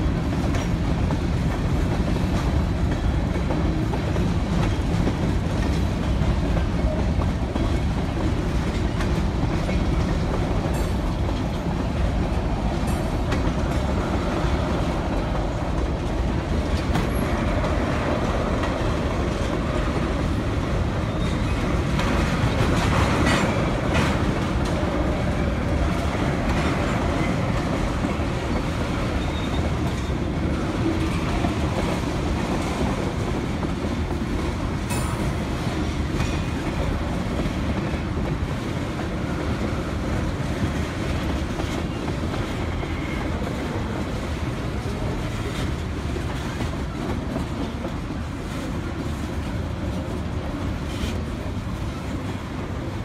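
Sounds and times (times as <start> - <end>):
freight train rumbling past: 0.0 - 53.0
wheels clacking over rail joints: 0.0 - 53.0.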